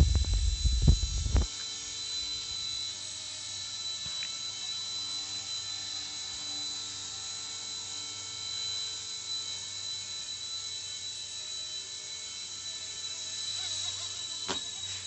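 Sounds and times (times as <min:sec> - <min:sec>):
toy helicopter rotor whine: 0:00.0 - 0:15.0.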